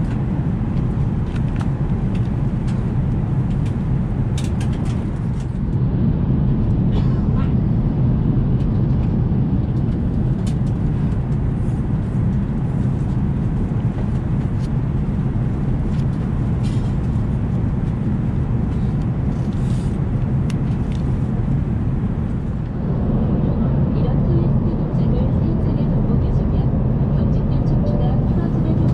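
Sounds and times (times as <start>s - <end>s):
airplane cabin rumble: 0.0s - 28.9s.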